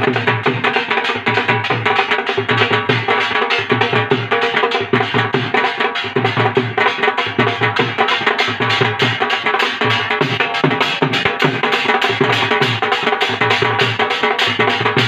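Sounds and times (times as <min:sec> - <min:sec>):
barrel drum beating fast rhythm: 0:00.0 - 0:15.0.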